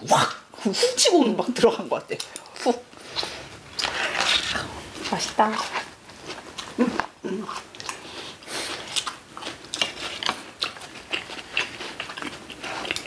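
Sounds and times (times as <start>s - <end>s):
people chewing and eating: 0.0s - 13.0s.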